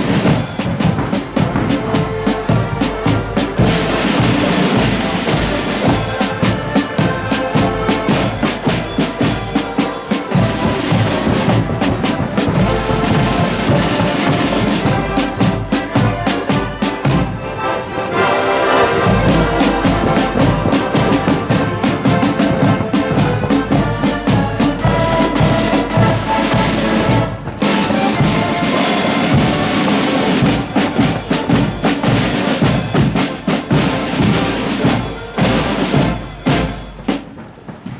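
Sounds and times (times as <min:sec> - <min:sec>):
accordion band march: 0:00.0 - 0:37.8
side drums: 0:00.0 - 0:37.9.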